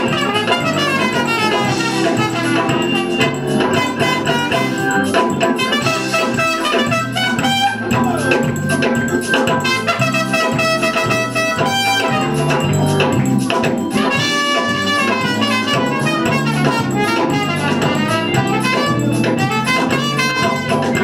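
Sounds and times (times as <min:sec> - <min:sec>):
live band with guitar and drums: 0:00.0 - 0:21.0
trumpet playing jazzy melody: 0:00.0 - 0:21.0.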